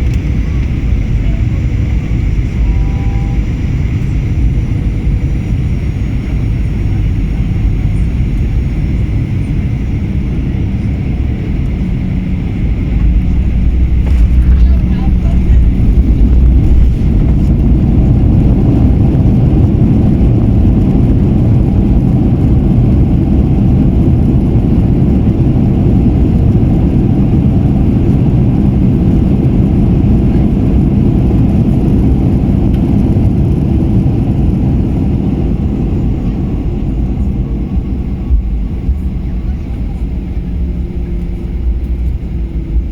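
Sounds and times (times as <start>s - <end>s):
airplane engines rumbling in cabin: 0.0s - 42.9s.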